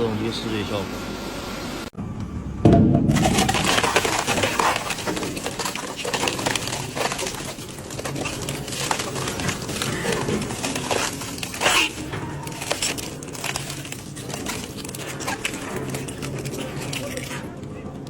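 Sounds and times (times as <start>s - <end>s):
metal shredder crunching metal: 2.6s - 18.0s.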